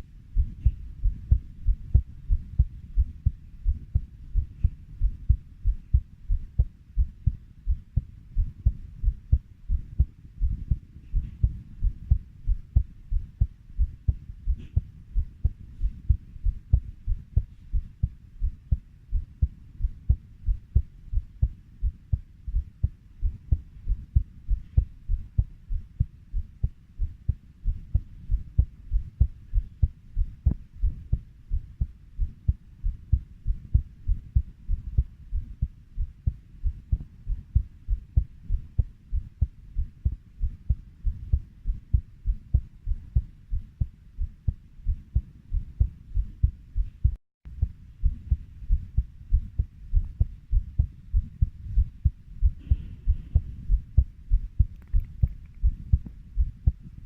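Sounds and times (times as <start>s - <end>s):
heartbeat thumping: 0.0s - 57.0s.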